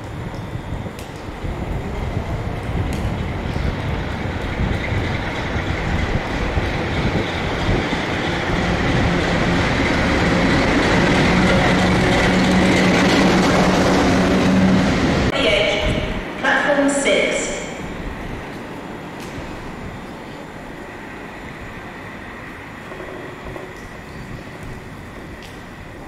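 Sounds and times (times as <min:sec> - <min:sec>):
diesel locomotive engine droning: 0:00.0 - 0:26.0.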